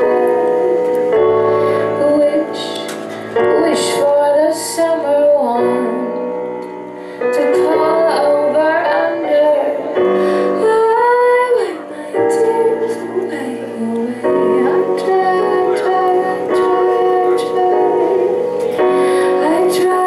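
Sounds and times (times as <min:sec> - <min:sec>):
sustained keyboard chords: 0:00.0 - 0:20.0
woman singing a ballad: 0:00.0 - 0:20.0.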